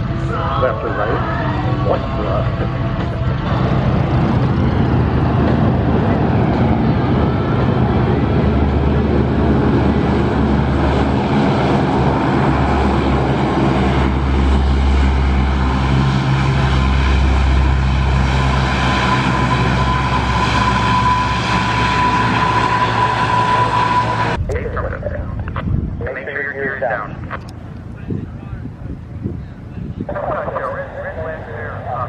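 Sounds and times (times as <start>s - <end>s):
high turbine whine: 0.0s - 32.0s
turboprop engines droning: 0.0s - 32.0s.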